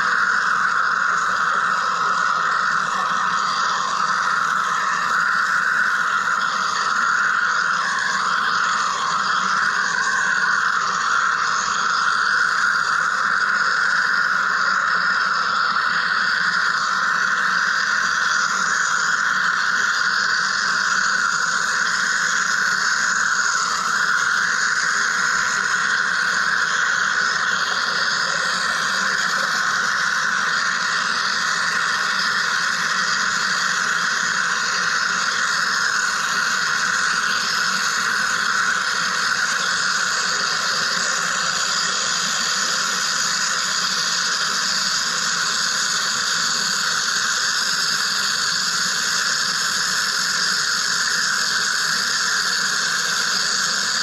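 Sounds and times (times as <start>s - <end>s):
machine cutting hiss-like buzz: 0.0s - 54.0s.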